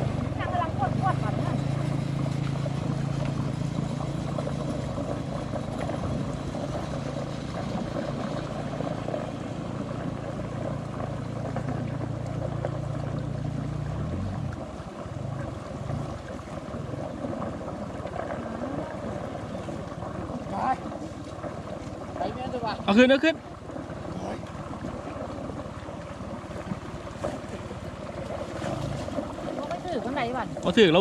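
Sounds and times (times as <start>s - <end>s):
outdoor noise: 0.0s - 31.0s
small engine droning: 0.0s - 31.0s.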